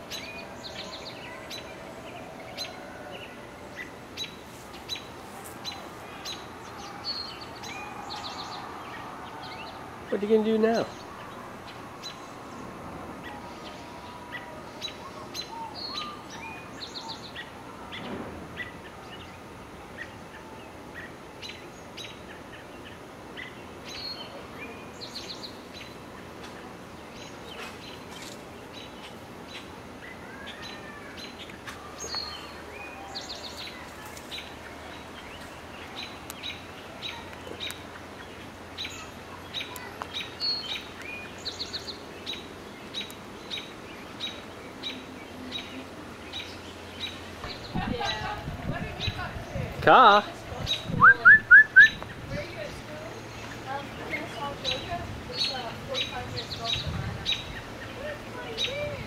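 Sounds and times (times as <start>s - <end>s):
outdoor background noise: 0.0s - 59.0s
songbirds chirping: 0.0s - 59.0s.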